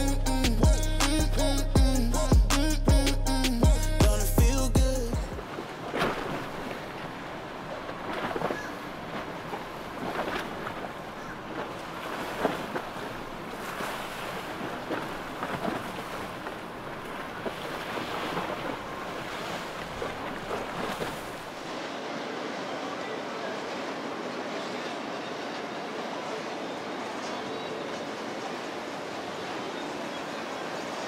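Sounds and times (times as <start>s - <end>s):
water sloshing and splashing: 5.3s - 31.0s.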